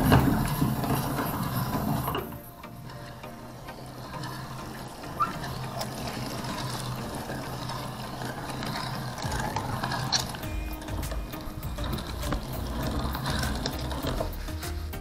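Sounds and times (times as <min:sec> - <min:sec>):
hand-cranked meat grinder grinding: 0:00.0 - 0:15.0.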